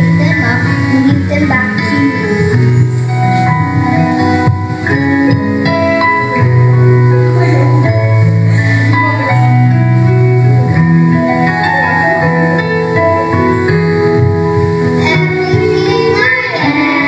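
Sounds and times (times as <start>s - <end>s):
instrumental backing track: 0.0s - 17.0s
slow bass line: 0.0s - 17.0s.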